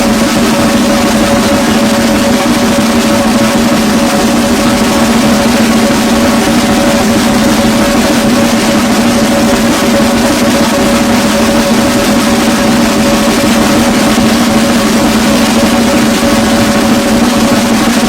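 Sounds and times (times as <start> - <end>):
snare and bass drums: 0.0 - 18.0.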